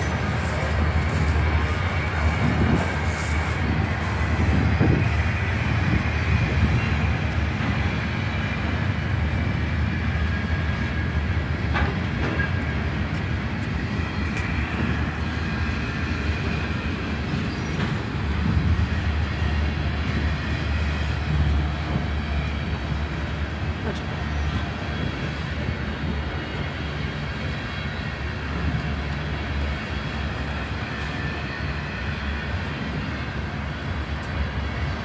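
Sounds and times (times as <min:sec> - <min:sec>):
freight train wheels rumbling: 0:00.0 - 0:35.0
rail click: 0:00.0 - 0:35.0.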